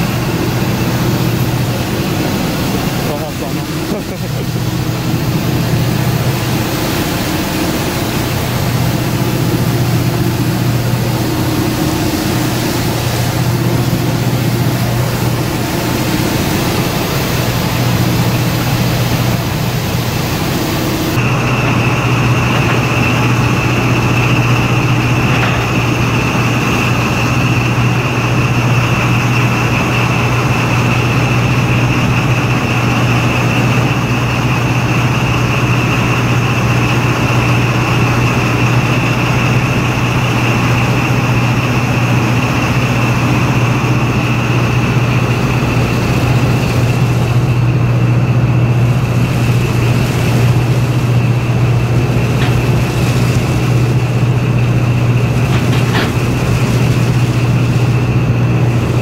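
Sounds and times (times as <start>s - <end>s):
high-pitched whine: 0.0s - 59.0s
ship engine drone: 0.0s - 59.0s
wind and water rush: 0.0s - 59.0s.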